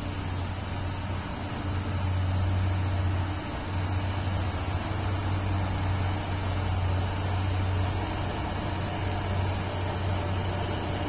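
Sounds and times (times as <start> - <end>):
even hiss: 0.0 - 11.0
vehicle engines idling: 0.0 - 11.0.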